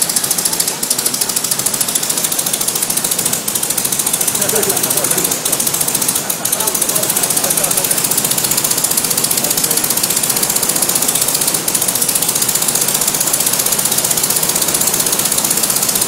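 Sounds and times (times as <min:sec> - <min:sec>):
light aircraft engine running: 0:00.0 - 0:16.0.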